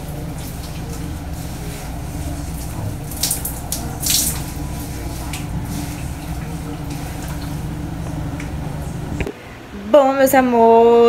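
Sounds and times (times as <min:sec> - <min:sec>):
hands rubbing wet hair: 0:00.0 - 0:09.2
water running: 0:00.0 - 0:09.3.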